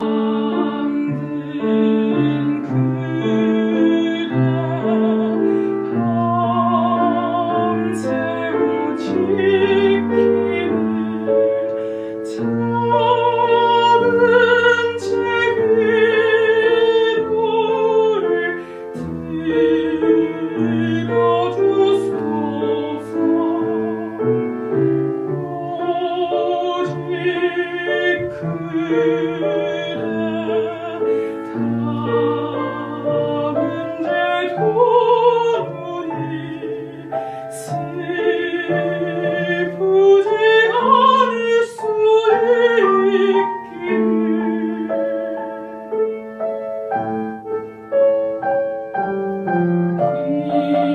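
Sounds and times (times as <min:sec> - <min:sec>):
piano: 0:00.0 - 0:50.9
soprano singing classical song: 0:00.0 - 0:50.9.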